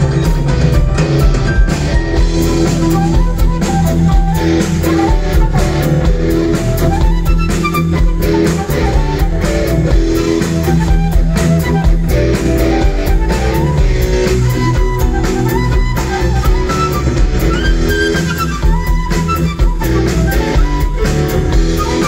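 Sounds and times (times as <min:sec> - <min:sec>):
flute melody: 0:00.0 - 0:22.0
rock band playing live: 0:00.0 - 0:22.0.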